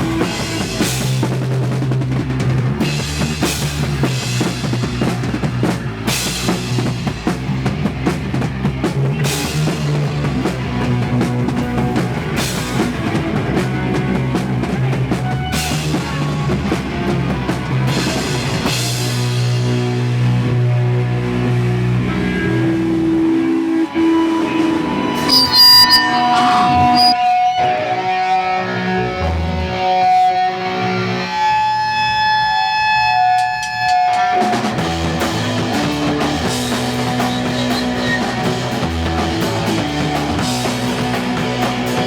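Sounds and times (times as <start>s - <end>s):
punk band playing live: 0.0s - 42.0s.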